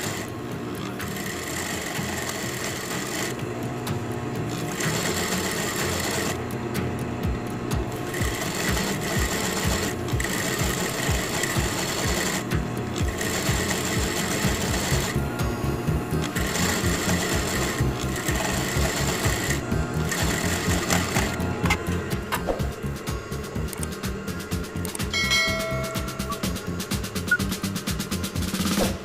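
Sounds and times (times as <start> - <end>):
sewing machine stitching: 0.0 - 6.8, 7.6 - 25.1, 26.1 - 29.0.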